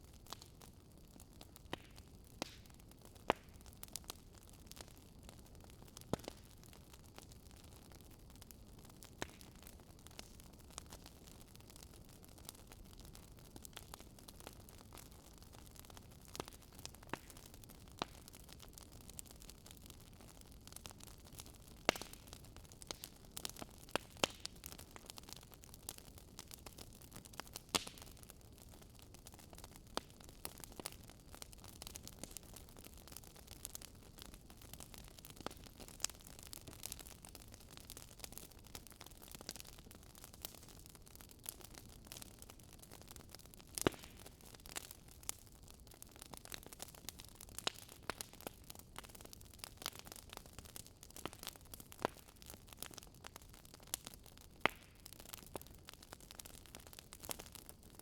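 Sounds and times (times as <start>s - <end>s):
fire crackling with pops: 0.0s - 58.0s.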